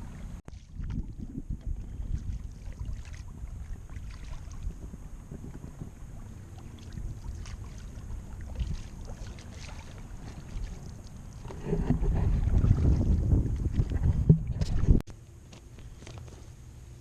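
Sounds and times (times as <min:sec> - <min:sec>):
wind rumble on microphone: 0:00.0 - 0:15.0
paddle splashes: 0:00.5 - 0:15.0.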